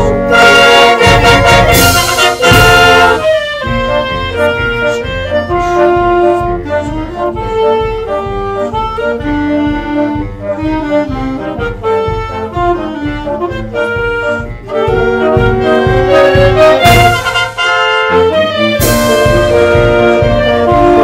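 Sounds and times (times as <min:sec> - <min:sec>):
concert wind band playing: 0:00.0 - 0:21.0.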